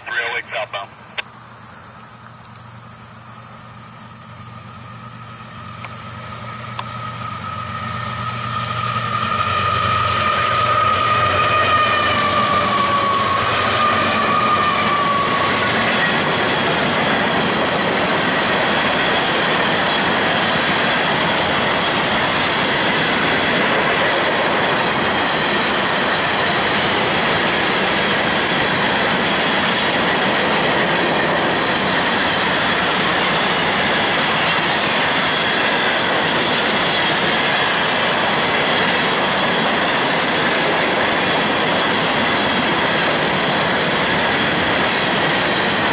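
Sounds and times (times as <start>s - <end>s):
locomotive whine: 0.0s - 45.9s
train wheels on rails: 0.0s - 45.9s.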